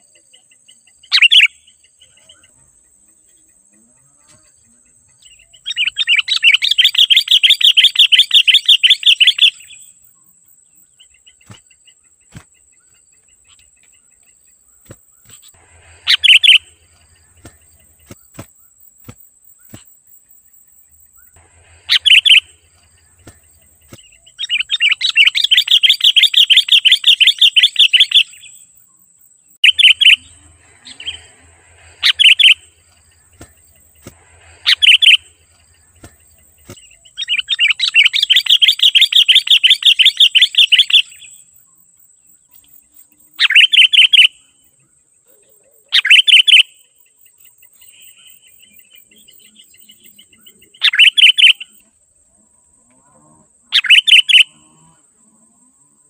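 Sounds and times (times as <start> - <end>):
bird chattering song: 0.0 - 3.6, 4.7 - 19.9, 21.1 - 28.7, 29.6 - 41.4, 42.5 - 44.6, 45.3 - 51.8, 53.7 - 54.6.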